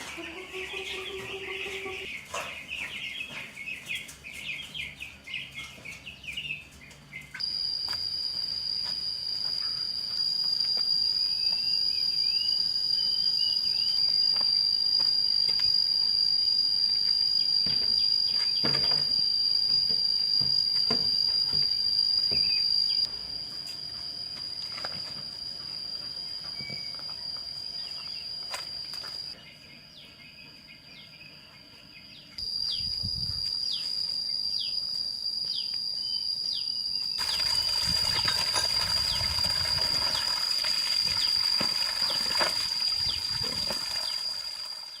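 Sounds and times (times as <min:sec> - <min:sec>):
insects singing high-pitched note: 0:00.0 - 0:02.2, 0:07.4 - 0:29.4, 0:32.4 - 0:45.0.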